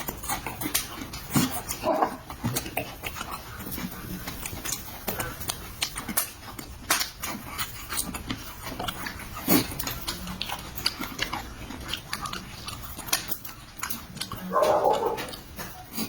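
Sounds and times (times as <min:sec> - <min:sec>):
food crunch: 0:00.0 - 0:16.0
mouth clicks: 0:00.0 - 0:16.0
person chewing and smacking: 0:00.0 - 0:16.0.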